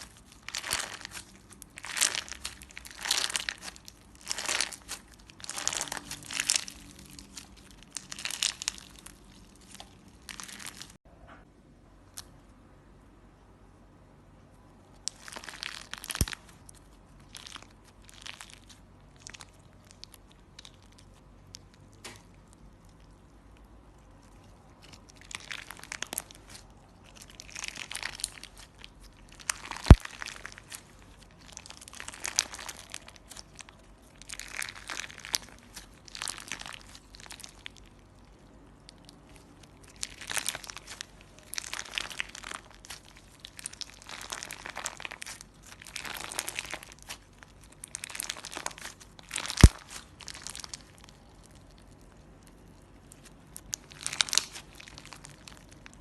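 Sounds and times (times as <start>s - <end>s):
slime crackling and popping: 0.0s - 11.0s, 14.9s - 56.0s.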